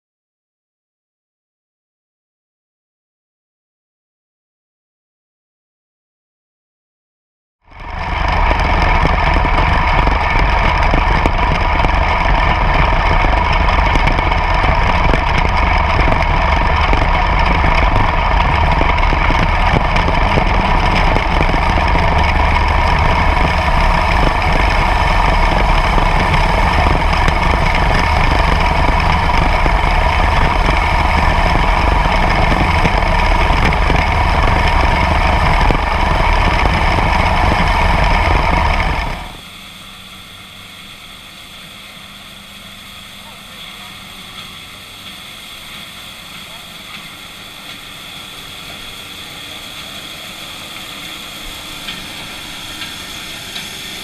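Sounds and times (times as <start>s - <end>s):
combine harvester running: 7.7s - 54.0s
steady machine whine: 7.7s - 54.0s.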